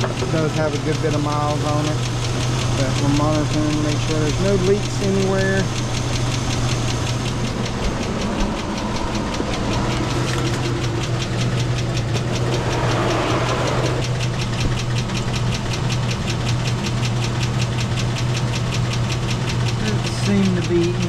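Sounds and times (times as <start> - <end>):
engine idling with ticking: 0.0 - 21.0.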